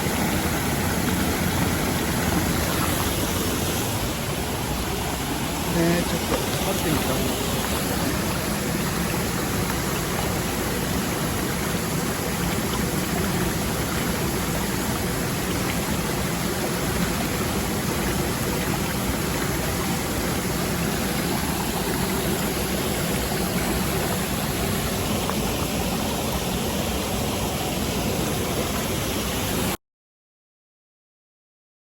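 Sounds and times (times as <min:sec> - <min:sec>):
stream water rushing: 0:00.0 - 0:29.8.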